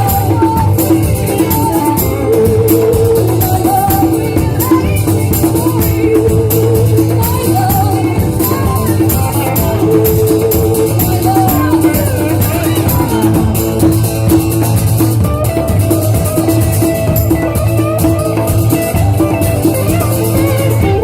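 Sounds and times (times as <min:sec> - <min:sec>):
person singing: 0:00.0 - 0:14.7, 0:15.3 - 0:21.0
live band playing: 0:00.0 - 0:21.0.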